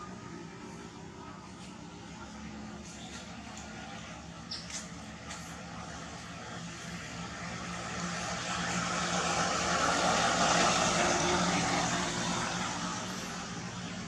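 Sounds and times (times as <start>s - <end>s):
passing vehicle engine: 0.0s - 14.0s.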